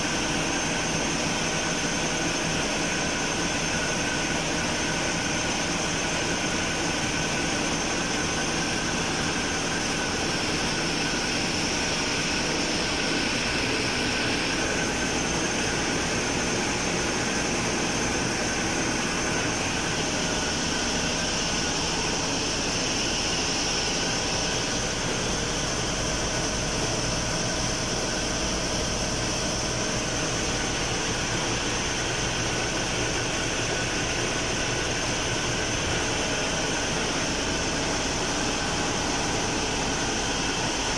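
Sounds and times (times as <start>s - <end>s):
pumps humming and hissing: 0.0s - 40.9s.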